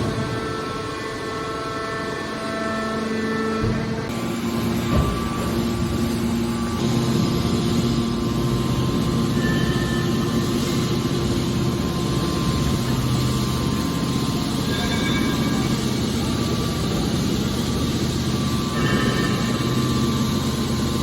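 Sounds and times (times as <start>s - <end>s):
loud machine hum: 0.0s - 21.0s
low hydraulic drone: 0.0s - 21.0s.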